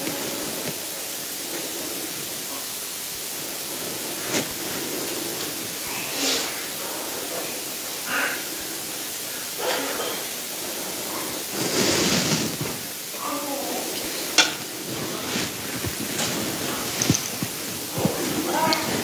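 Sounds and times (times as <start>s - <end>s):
rustle: 0.0s - 19.0s
steady hiss: 0.0s - 19.0s.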